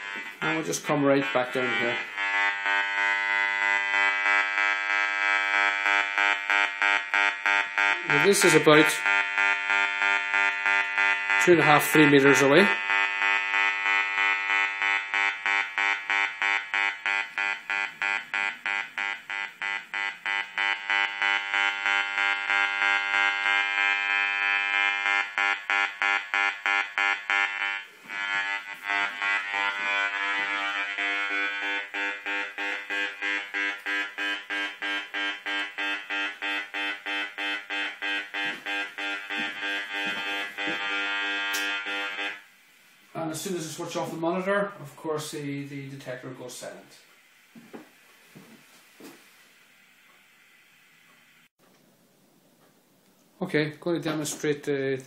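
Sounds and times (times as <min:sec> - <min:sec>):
detector speaker buzzing in pulses: 0:00.0 - 0:44.4.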